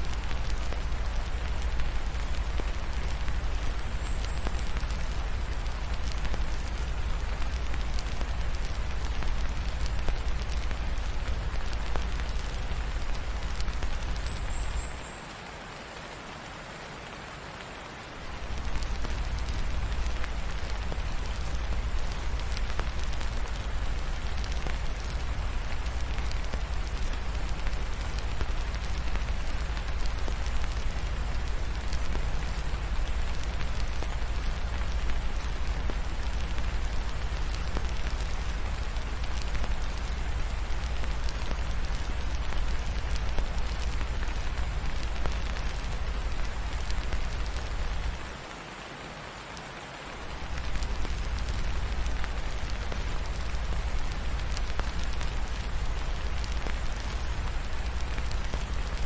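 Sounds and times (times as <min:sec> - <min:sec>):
fireplace crackling: 0:00.0 - 0:15.3, 0:18.0 - 0:48.5, 0:50.0 - 0:59.0
steady rain: 0:00.0 - 0:59.0.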